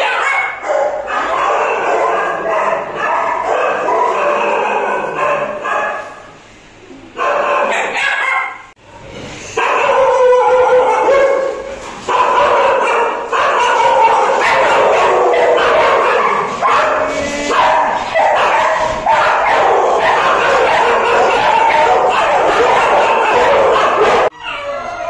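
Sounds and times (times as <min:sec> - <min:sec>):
dogs barking and yelping: 0:00.0 - 0:06.4, 0:07.1 - 0:08.8, 0:09.4 - 0:25.0.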